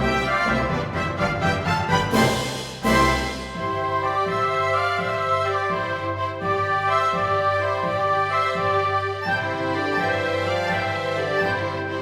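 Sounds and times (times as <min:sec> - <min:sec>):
orchestra playing dance music: 0:00.0 - 0:12.0.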